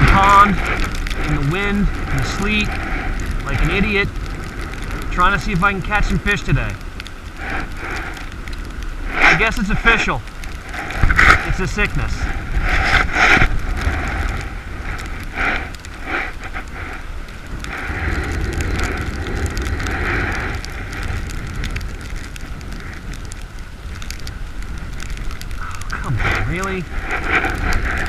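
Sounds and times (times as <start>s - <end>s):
gusty wind buffeting microphone: 0.0s - 28.0s
sleet crackling: 0.0s - 28.0s.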